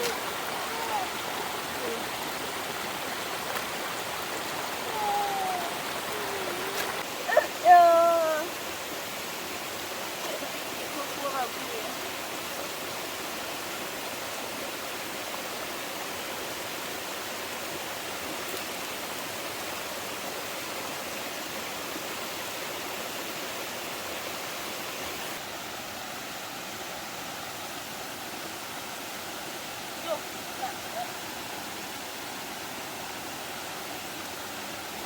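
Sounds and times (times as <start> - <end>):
steady hiss of water: 0.0 - 35.0.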